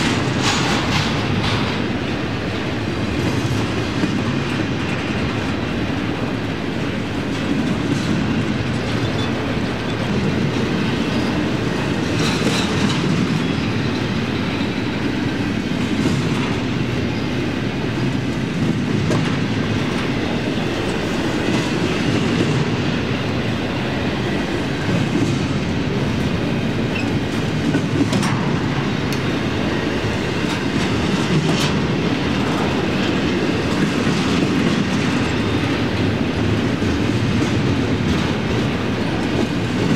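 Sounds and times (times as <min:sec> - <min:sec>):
freight train heavy rumble: 0:00.0 - 0:39.9
wheels clacking over rail joints: 0:00.0 - 0:39.9.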